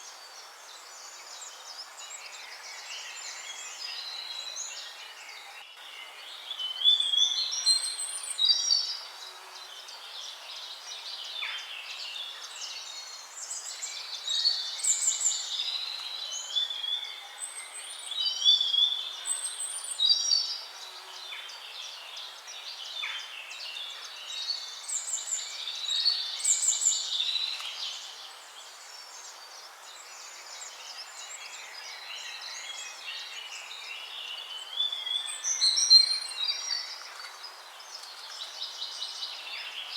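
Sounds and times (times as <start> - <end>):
songbirds singing: 0.0 - 39.9
steady background hiss: 0.0 - 39.9.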